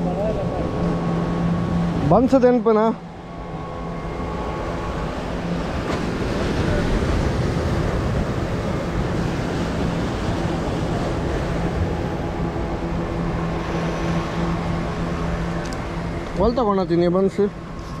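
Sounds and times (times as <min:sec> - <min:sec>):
faint low drone: 0:00.0 - 0:18.0
wind buffeting microphone: 0:00.0 - 0:18.0.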